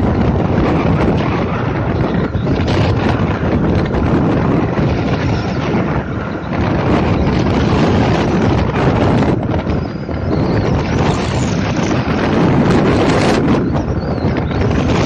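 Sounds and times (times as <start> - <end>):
vehicle rumble and tyres on road: 0.0 - 15.0
wind buffeting microphone: 0.0 - 15.0.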